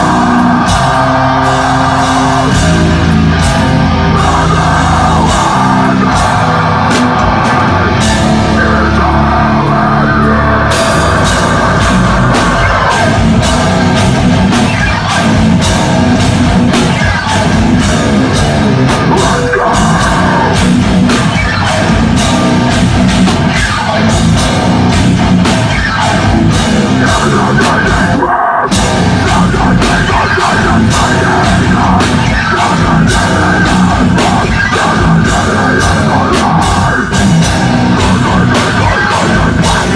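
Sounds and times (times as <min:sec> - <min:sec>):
screamed vocals: 0:00.0 - 0:15.8, 0:16.7 - 0:22.8, 0:25.7 - 0:39.9
distorted guitars: 0:00.0 - 0:39.9
pounding drum kit with cymbals: 0:00.0 - 0:39.9.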